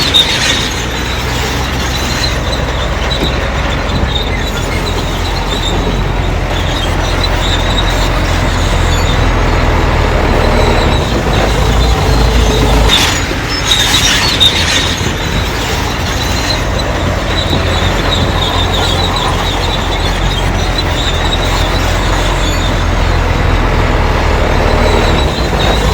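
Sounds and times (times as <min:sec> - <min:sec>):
bulldozer diesel engine under load: 0:00.0 - 0:25.9
steel tracks squealing: 0:00.0 - 0:25.9.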